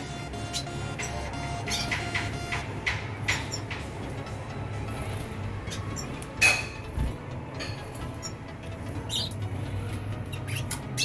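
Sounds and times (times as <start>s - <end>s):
birds chirping and squeaking: 0.0s - 11.0s.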